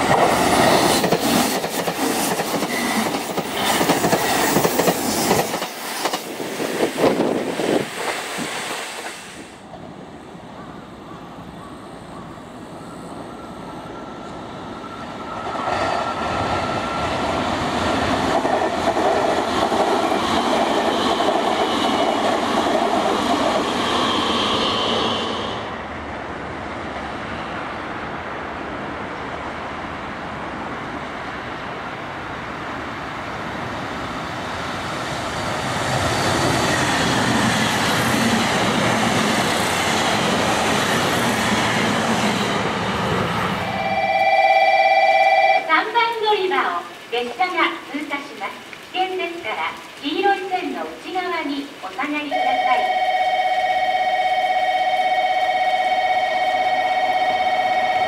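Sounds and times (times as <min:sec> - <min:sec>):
rail and wheel noise with whining: 0:00.0 - 0:45.9, 0:51.4 - 0:58.0
electric trains passing at speed: 0:00.0 - 0:58.0.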